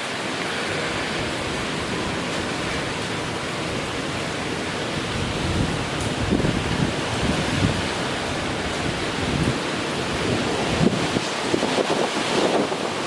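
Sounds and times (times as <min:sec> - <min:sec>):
rain: 0:00.0 - 0:13.0
strong wind rushing: 0:00.9 - 0:13.0
wind buffeting microphone: 0:00.9 - 0:13.0.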